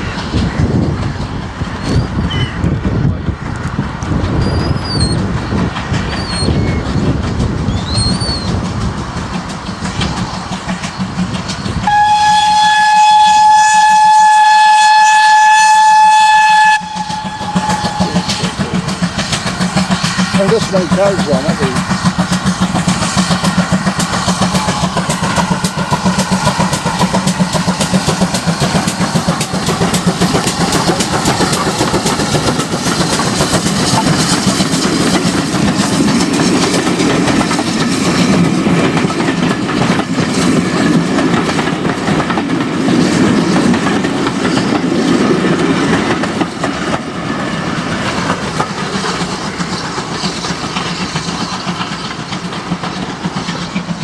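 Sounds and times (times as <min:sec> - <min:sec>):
wheels clicking over rail joints: 0:00.0 - 0:14.1, 0:16.8 - 0:54.0
train running past: 0:00.0 - 0:54.0.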